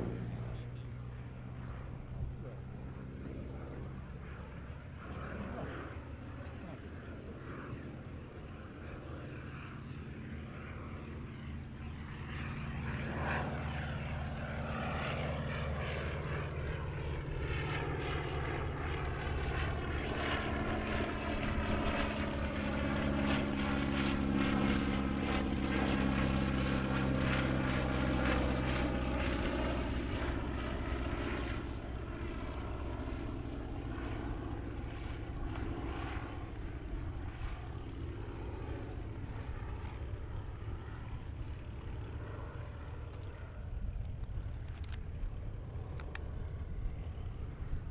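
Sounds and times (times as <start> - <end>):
biplane engine and propeller: 0.0 - 47.9.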